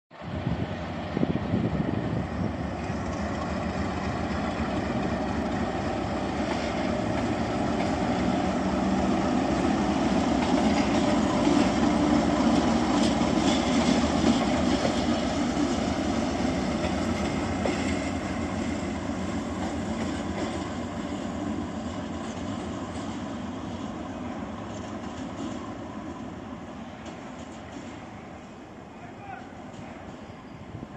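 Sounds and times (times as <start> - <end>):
diesel locomotive passing: 0.1 - 30.9.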